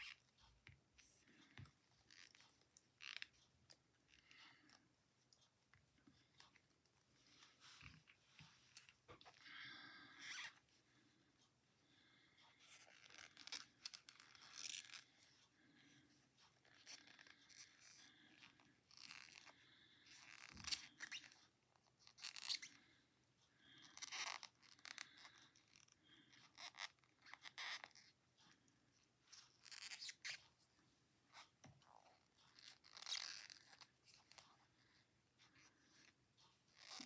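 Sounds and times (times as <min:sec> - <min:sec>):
knitting needles scraping yarn: 0:00.0 - 0:09.4, 0:12.6 - 0:15.5, 0:16.4 - 0:19.5, 0:20.1 - 0:22.8, 0:24.0 - 0:28.5, 0:29.2 - 0:30.6, 0:31.3 - 0:37.0.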